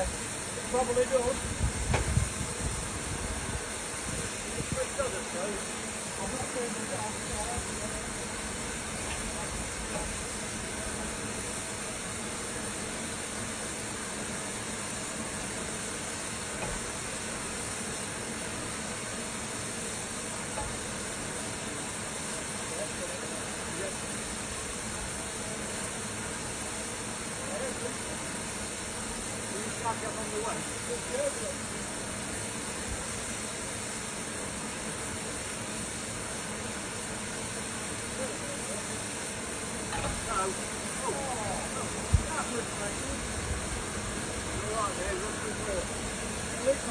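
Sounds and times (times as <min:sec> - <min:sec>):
steam hissing from locomotive: 0:00.0 - 0:46.9.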